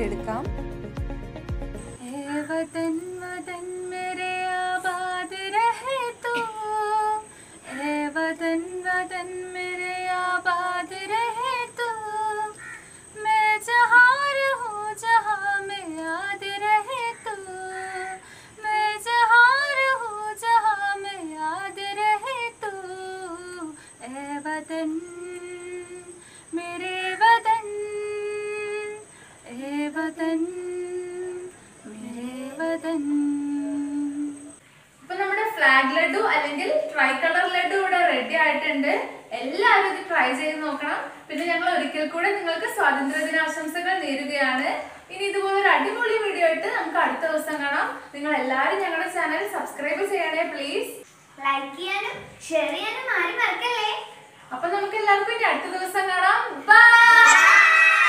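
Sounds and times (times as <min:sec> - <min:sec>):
woman singing unaccompanied: 0:00.0 - 0:00.8, 0:01.8 - 0:50.5.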